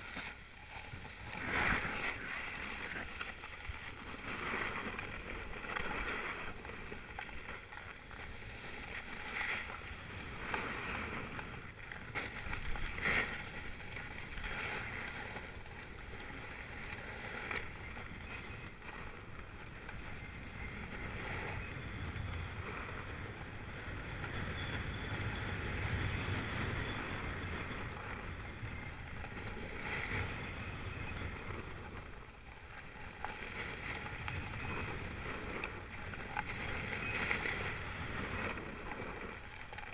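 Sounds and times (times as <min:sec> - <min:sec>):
skis scraping over packed snow: 0:00.0 - 0:39.9
wind rumbling on microphone: 0:00.0 - 0:39.9.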